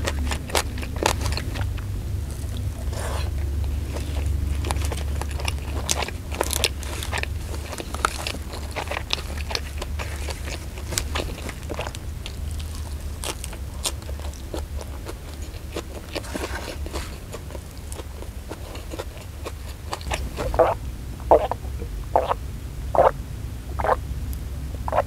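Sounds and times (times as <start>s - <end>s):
wet mouth clicks: 0.0s - 22.4s, 23.0s - 24.0s
gulping water: 0.0s - 24.0s, 24.7s - 25.0s
chewing leafy vegetables and rice: 0.0s - 25.0s.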